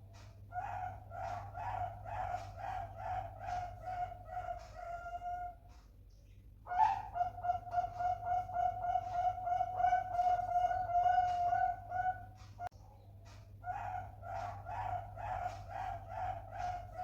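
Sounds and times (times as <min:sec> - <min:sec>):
dove cooing: 0:00.6 - 0:05.6, 0:06.7 - 0:12.7, 0:13.7 - 0:17.0.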